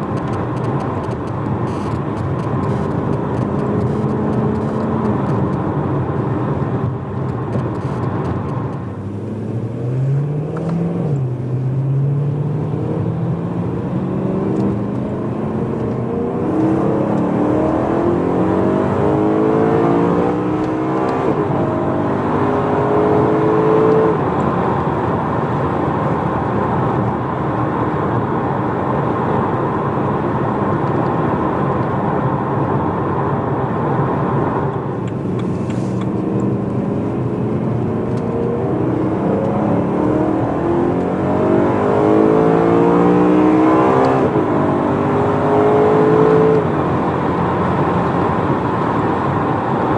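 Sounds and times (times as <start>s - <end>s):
car engine accelerating through gears: 0.0s - 49.9s.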